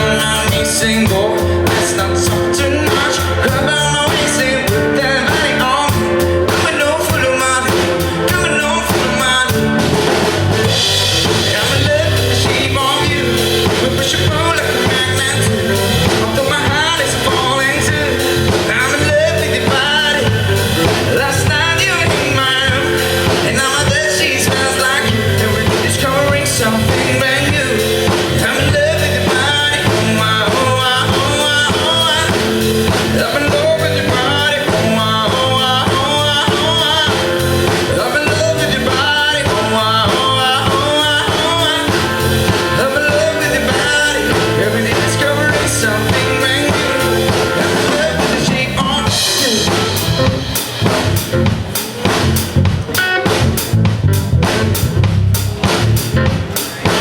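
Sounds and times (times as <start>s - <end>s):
bass: 0.0s - 57.0s
drum kit: 0.0s - 57.0s
melodic lead line: 0.0s - 57.0s.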